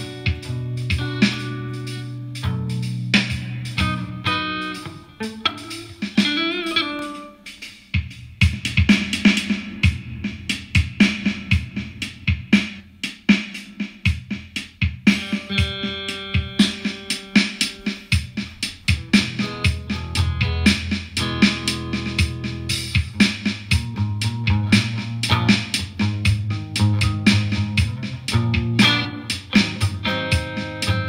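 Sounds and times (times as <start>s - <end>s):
plucked guitar music: 0.0s - 9.8s, 15.1s - 31.0s
steady drum beat: 0.0s - 31.0s.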